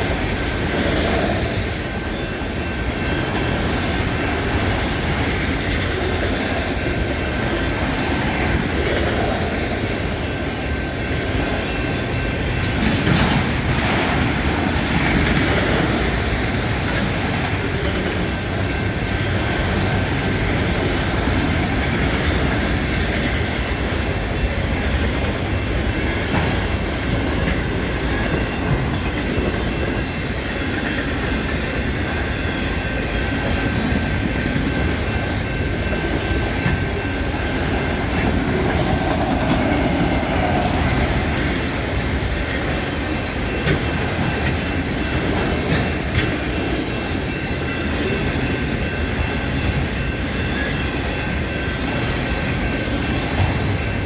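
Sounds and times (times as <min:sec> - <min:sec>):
freight train rolling past: 0:00.0 - 0:54.0
wheels squealing on rails: 0:00.0 - 0:54.0.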